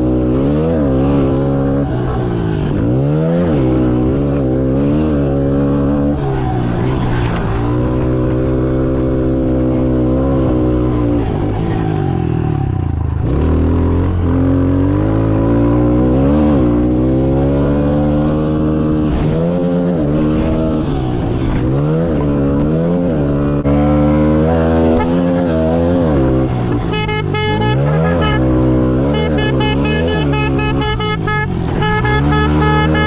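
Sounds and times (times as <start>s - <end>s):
motorbike engine revving hard: 0.0s - 33.0s.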